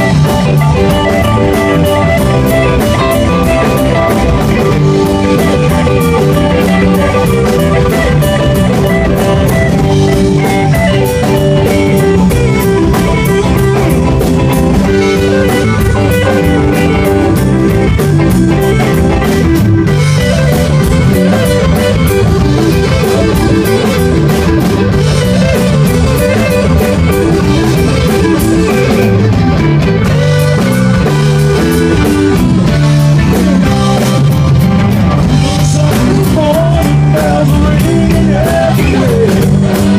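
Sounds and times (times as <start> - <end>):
drum kit beat: 0.0 - 39.9
guitars: 0.0 - 39.9.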